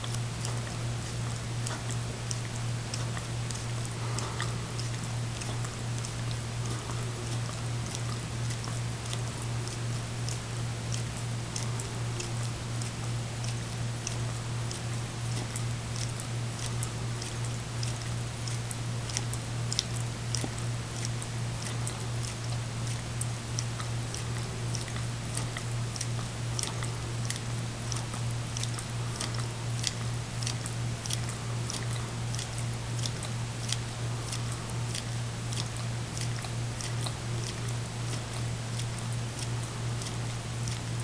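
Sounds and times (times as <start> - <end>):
dog licking wetly: 0.0 - 41.0
steady low hum: 0.0 - 41.0.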